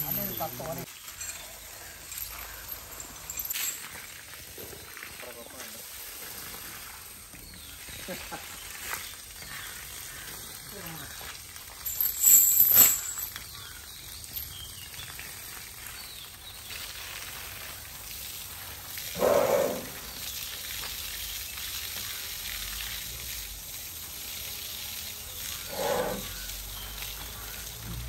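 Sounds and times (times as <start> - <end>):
hose water spraying and splashing: 0.0 - 28.0.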